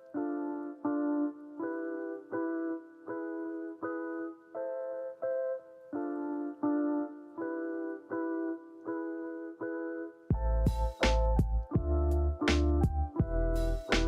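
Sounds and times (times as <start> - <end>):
gentle electric piano melody: 0.0 - 14.0.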